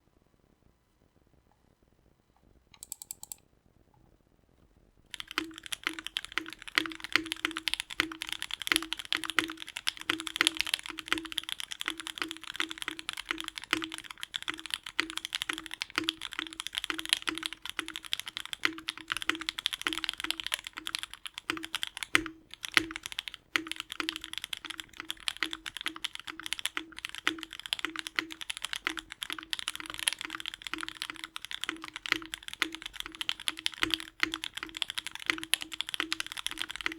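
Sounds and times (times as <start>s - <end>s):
fast typing on mechanical keyboard: 5.1s - 36.9s.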